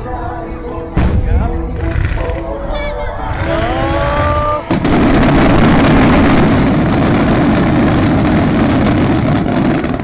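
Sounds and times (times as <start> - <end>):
fireworks bursting with crackle: 1.0 - 10.0.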